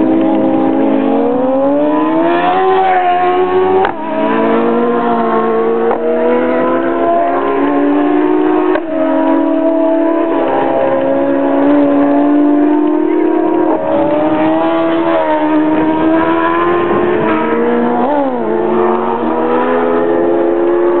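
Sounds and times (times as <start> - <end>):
racing engine whine passing: 0.0 - 21.0.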